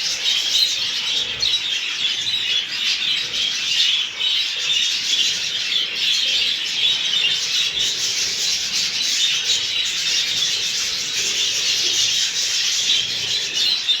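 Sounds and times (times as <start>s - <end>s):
flock of budgerigars chattering: 0.0s - 14.0s.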